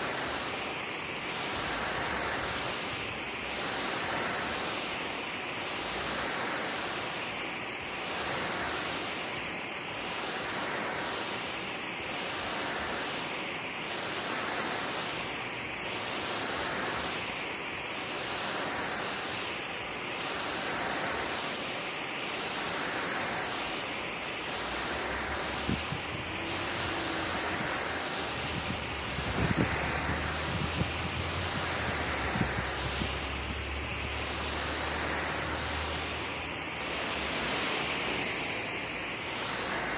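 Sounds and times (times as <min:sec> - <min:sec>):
water spraying onto lawn: 0:00.0 - 0:39.9.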